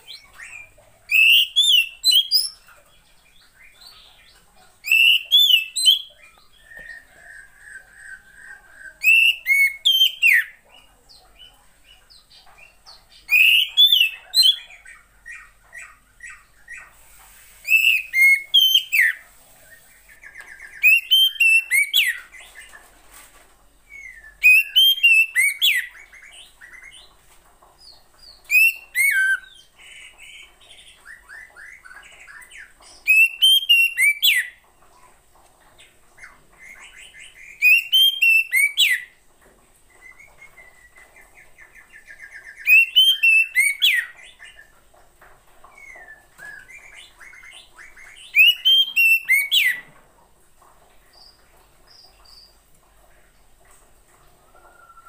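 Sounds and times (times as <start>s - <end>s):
soft bird chirps: 0.0s - 35.2s, 39.9s - 44.8s, 45.6s - 49.9s.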